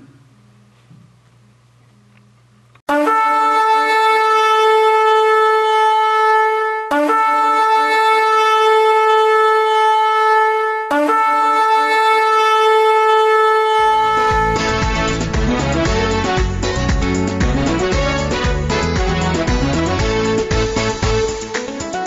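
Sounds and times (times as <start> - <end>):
shofar blasts: 2.9 - 21.2.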